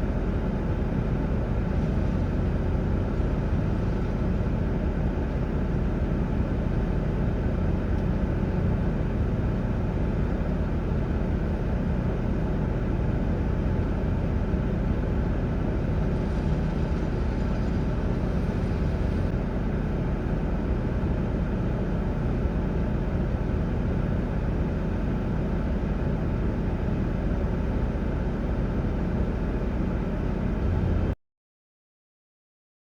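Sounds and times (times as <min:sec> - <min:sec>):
vehicle engine and road noise: 0:00.0 - 0:31.2.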